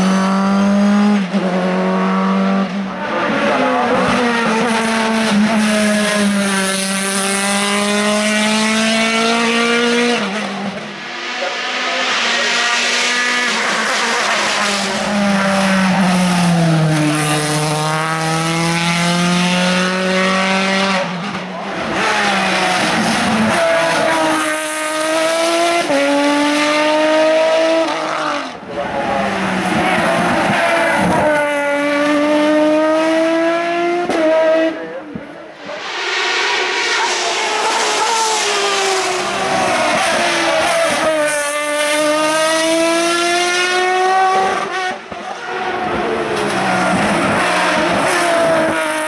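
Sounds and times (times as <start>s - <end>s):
racing car engines revving: 0.0s - 49.0s.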